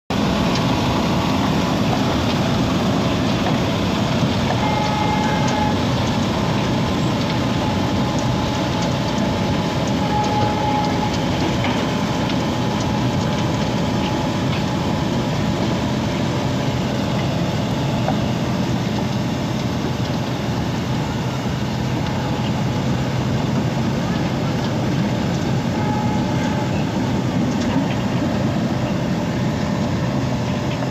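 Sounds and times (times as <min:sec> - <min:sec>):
milling machine grinding asphalt: 0:00.1 - 0:30.9.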